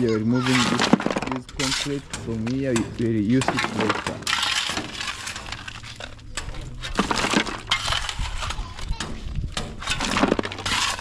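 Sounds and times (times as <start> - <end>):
clatter of concrete rubble: 0.0 - 11.0.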